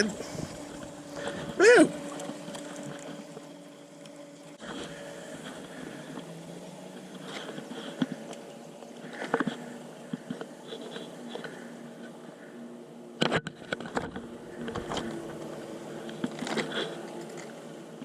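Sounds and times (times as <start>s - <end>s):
electric trolling motor humming: 0.0s - 18.0s.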